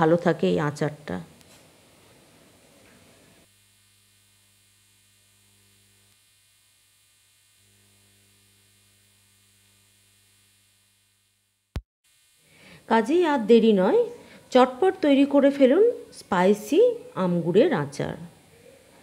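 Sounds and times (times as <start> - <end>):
faint mains hum: 0.0 - 19.0.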